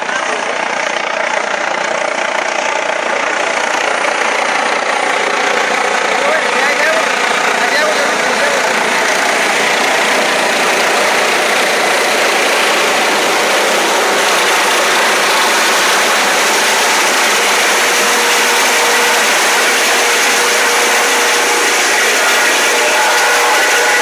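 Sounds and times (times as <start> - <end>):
helicopter engine and rotor: 0.0 - 24.0.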